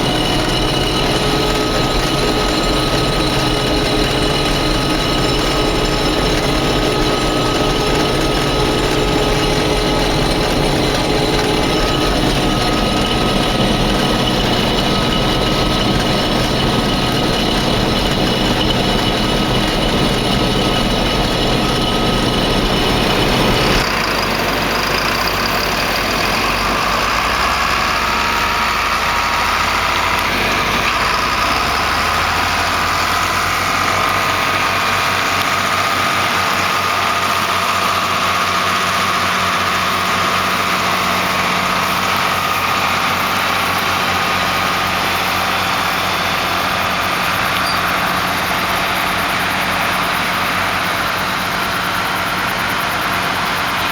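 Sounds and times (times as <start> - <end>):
combine harvester running: 0.0 - 53.9.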